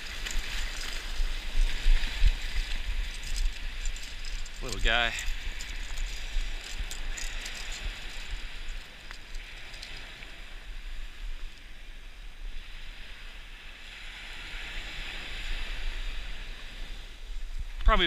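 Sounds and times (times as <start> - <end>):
surf washing up beach: 0.0 - 18.0
wind rumbling on microphone: 0.0 - 18.0.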